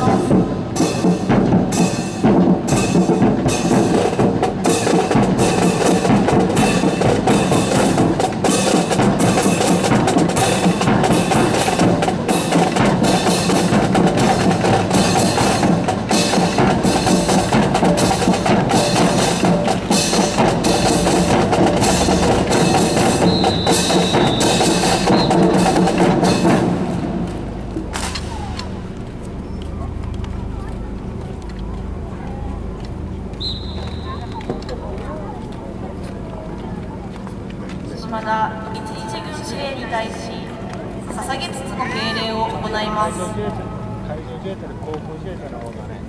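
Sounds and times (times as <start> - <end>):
marching band music: 0.0 - 45.5
drums keeping a steady beat: 0.0 - 46.0.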